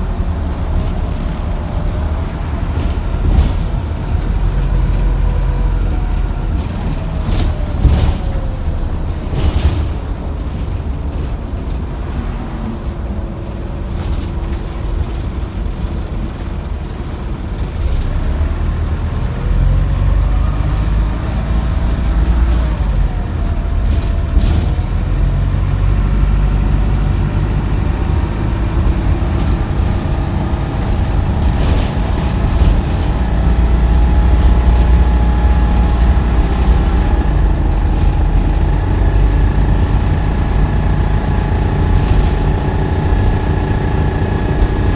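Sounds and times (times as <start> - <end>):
drivetrain whine: 0.0 - 11.8, 16.1 - 44.9
bus engine rumbling: 0.0 - 44.9.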